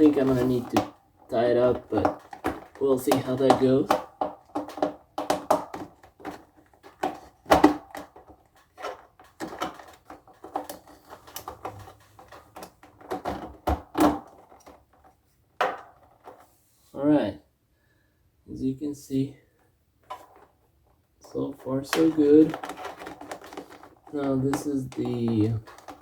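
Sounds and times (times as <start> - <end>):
cable clicks and knocks: 0.0 - 16.4, 21.2 - 26.0.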